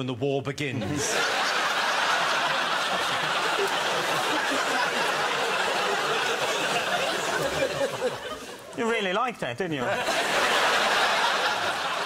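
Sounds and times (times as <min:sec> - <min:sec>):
audience laughing: 0:00.8 - 0:08.8, 0:09.8 - 0:12.0.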